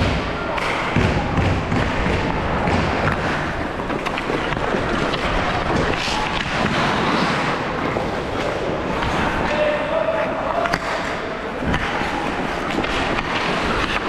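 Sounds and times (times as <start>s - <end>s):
din of players and onlookers: 0.0s - 14.0s.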